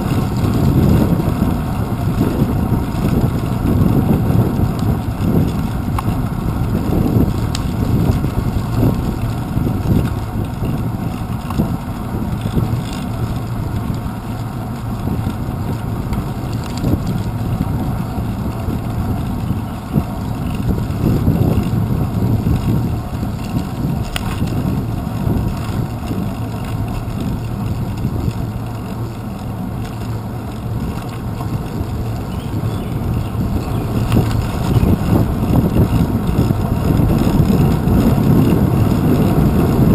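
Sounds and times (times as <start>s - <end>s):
bicycle tyres on pavement: 0.0s - 39.9s
wind noise: 0.0s - 39.9s.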